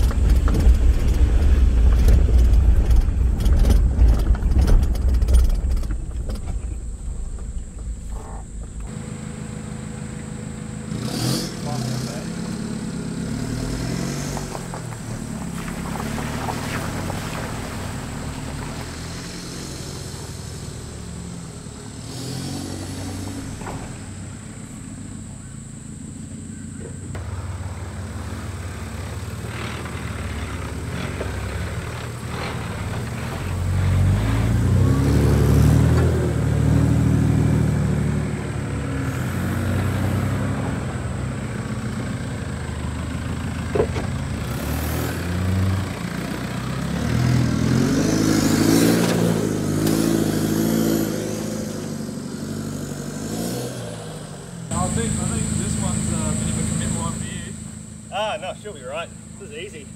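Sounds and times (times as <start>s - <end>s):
diesel engine pulling away: 0.0s - 59.9s
engine revving up and down: 8.0s - 24.5s, 26.7s - 43.0s, 43.8s - 59.9s.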